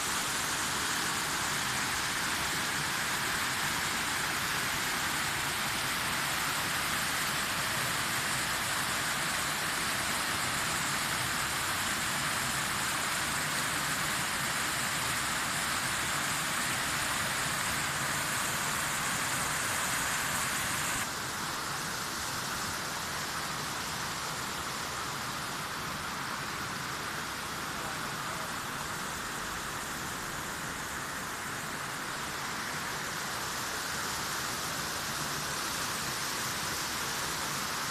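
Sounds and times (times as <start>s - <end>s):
river water flowing: 0.0s - 37.9s.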